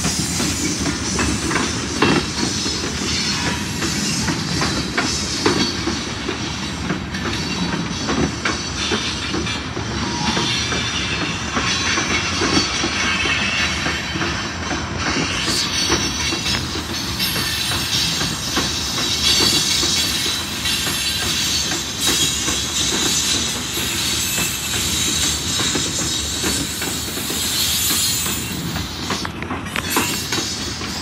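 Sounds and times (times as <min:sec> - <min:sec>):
steel wheels rumbling on rails: 0:00.0 - 0:31.0.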